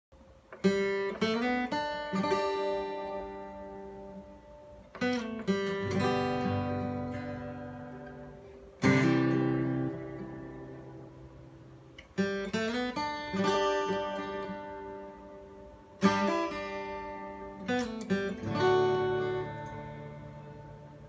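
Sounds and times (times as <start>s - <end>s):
acoustic guitar chord strummed: 0.2s - 21.0s
acoustic guitar notes: 0.2s - 21.0s.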